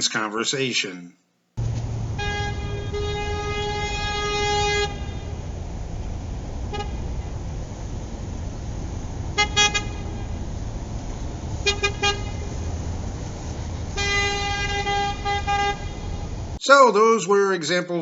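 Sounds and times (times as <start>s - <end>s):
car horn honking: 1.6s - 16.6s
low rumble of traffic: 1.6s - 16.6s.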